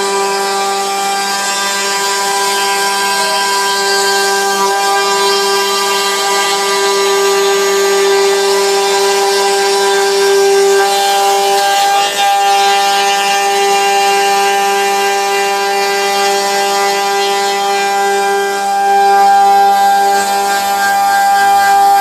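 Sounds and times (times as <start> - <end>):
spindle motor whining: 0.0 - 22.0.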